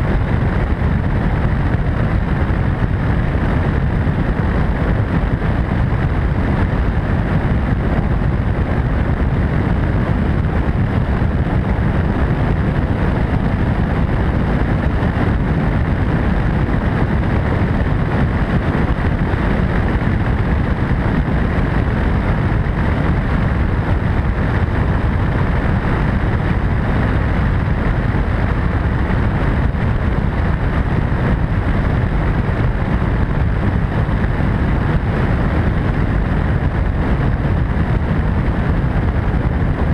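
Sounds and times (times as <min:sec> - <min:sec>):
helicopter turbine and rotor: 0:00.0 - 0:39.9
wind on microphone: 0:00.0 - 0:39.9.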